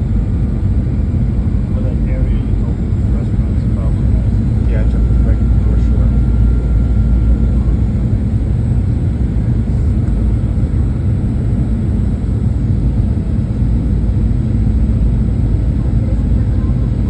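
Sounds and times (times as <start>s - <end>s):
airplane cabin noise: 0.0s - 17.0s.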